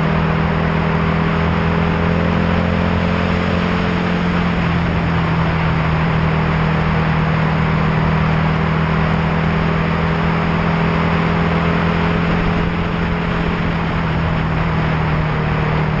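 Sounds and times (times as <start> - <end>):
road and wind noise: 0.0 - 16.0
vehicle engine hum: 0.0 - 16.0.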